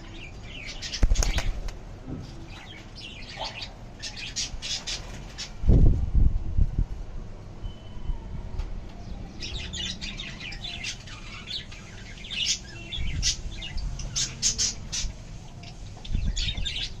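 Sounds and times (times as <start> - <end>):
birds chirping: 0.0 - 5.6, 9.0 - 17.0.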